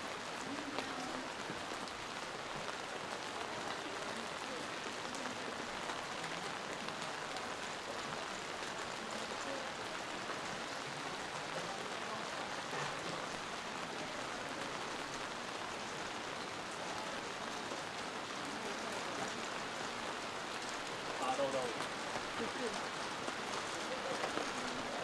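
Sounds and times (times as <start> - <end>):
rain falling on street: 0.0 - 25.0.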